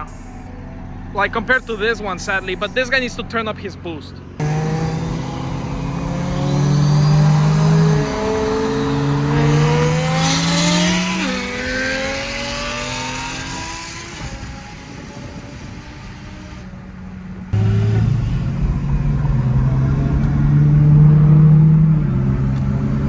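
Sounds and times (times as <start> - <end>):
gear upshifts: 0.0 - 23.0
turbocharged car engine accelerating: 0.0 - 23.0.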